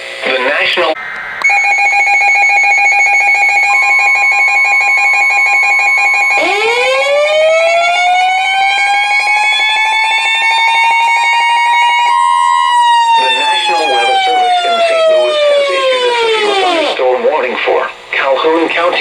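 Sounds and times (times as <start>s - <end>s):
higher alarm tone: 0.3s - 18.4s
pulsing alarm tone: 1.0s - 17.0s
rising siren-like tone: 1.0s - 17.0s.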